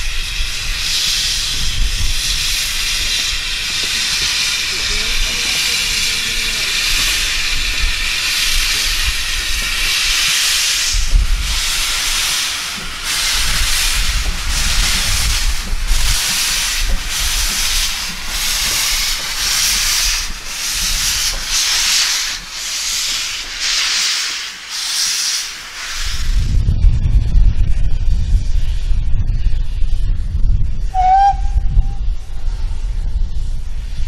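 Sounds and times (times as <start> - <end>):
steam locomotive chuffing: 0.0 - 26.6, 30.7 - 34.0
steam hissing: 0.0 - 30.1, 30.7 - 34.0.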